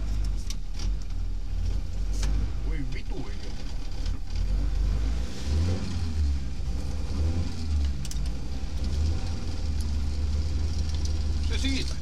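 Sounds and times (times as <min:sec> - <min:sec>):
car engine revving while stationary: 0:00.0 - 0:12.0.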